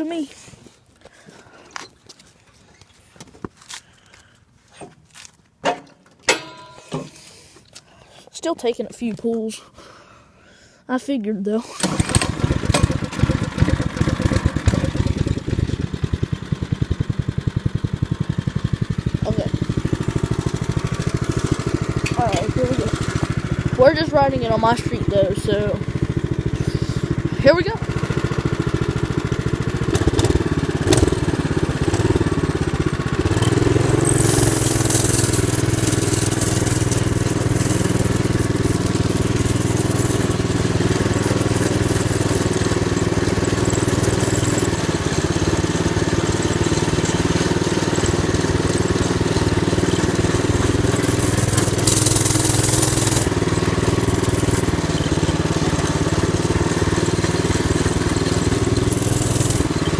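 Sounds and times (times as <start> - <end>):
small engine running: 11.7 - 59.9.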